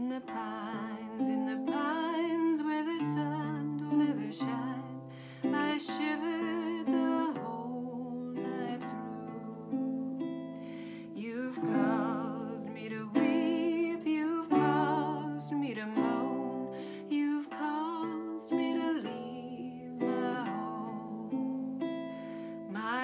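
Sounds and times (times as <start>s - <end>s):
classical guitar chords: 0.0s - 23.0s
woman singing folk melody: 0.0s - 23.0s.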